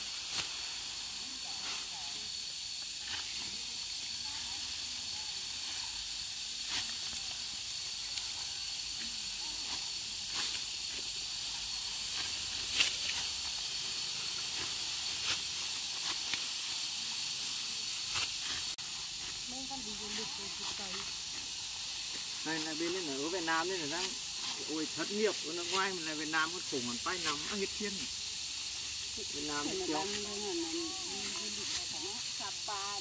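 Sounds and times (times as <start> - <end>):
sickles cutting rice stalks: 0.0 - 33.0
steady high hiss: 0.0 - 33.0.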